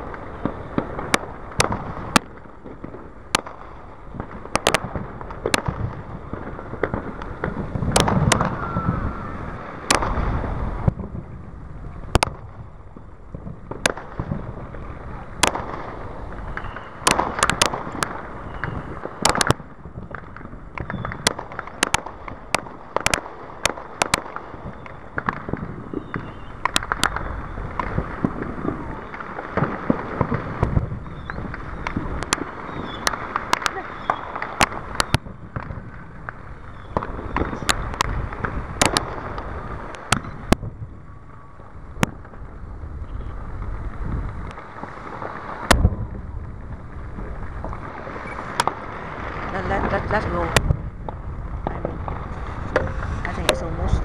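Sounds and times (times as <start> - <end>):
background rumble: 0.0 - 54.0
fireworks bangs and pops: 0.0 - 54.0.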